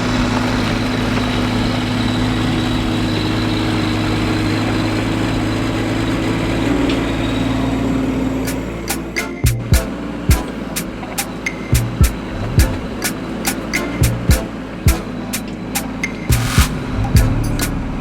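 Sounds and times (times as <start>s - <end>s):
mini excavator diesel engine running: 0.0s - 18.0s.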